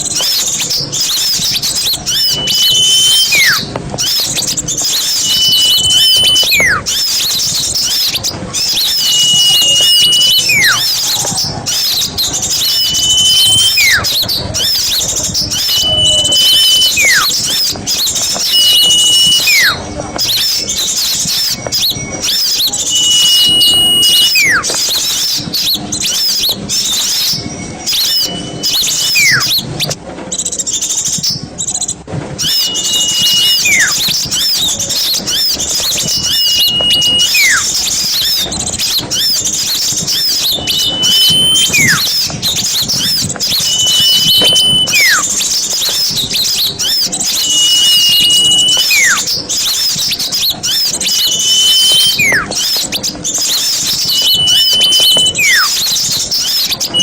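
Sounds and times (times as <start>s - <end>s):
small birds chattering: 0.0s - 57.0s
whistled bird call: 0.0s - 57.0s.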